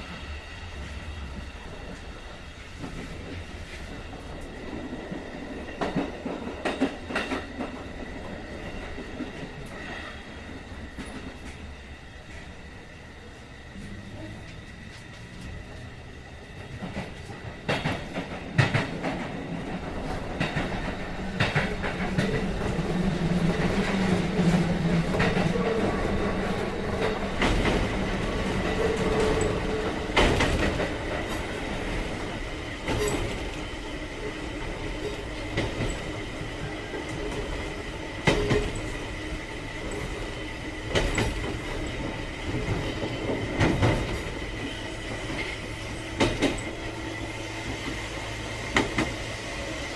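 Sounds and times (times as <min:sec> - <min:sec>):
train wheels rolling on track: 0:00.0 - 0:49.9.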